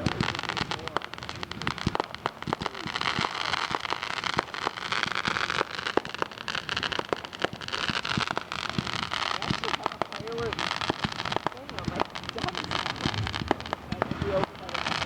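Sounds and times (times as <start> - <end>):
crackling hiss: 0.0 - 15.0
fireworks pops and bangs: 0.0 - 15.0.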